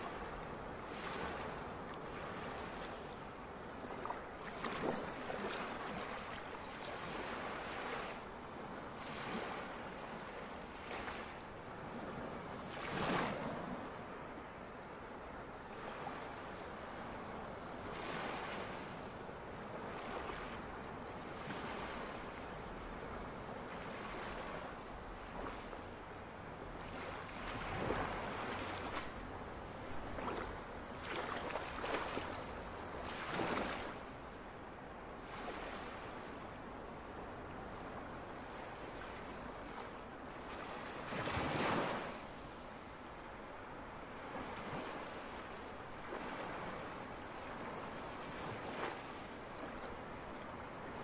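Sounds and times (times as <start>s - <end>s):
waves breaking on beach: 0.0s - 14.6s, 15.5s - 51.0s.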